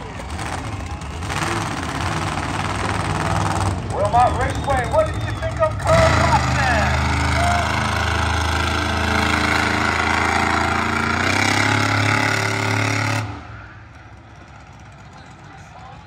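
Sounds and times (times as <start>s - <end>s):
loud truck engine running: 0.0s - 16.0s.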